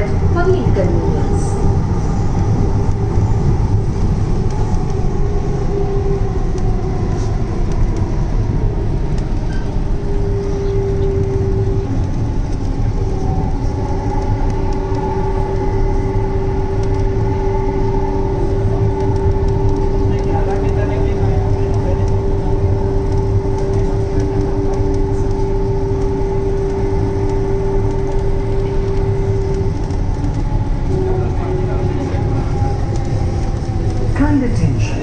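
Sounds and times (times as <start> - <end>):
train wheels rumbling on rail: 0.0 - 35.0
train whine: 0.0 - 35.0.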